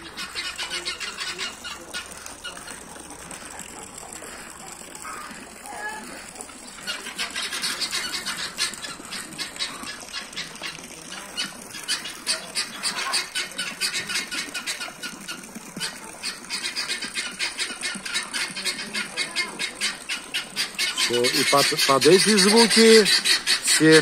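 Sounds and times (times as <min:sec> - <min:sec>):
guineafowl alarm calls: 0:00.0 - 0:24.0.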